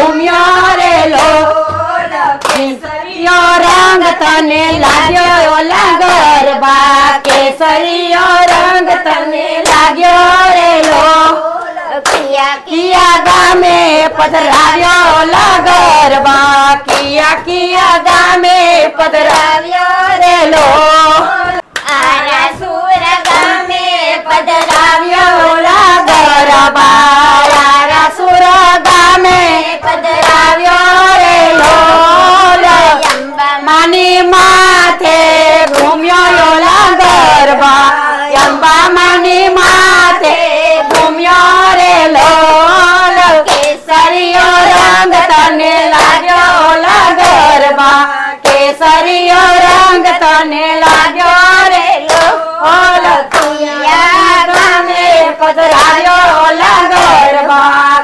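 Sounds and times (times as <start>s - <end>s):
rhythmic hand clapping: 0.0s - 58.0s
women singing together: 0.0s - 58.0s.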